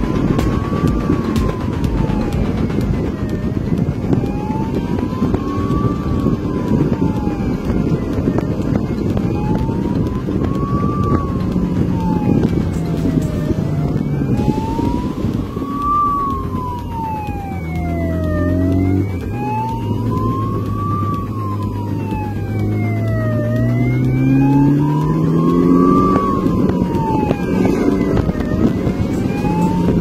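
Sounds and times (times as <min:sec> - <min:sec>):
motorcycle engine accelerating: 0:00.0 - 0:30.0
motorcycle siren wailing: 0:00.0 - 0:30.0
wind noise: 0:00.0 - 0:30.0.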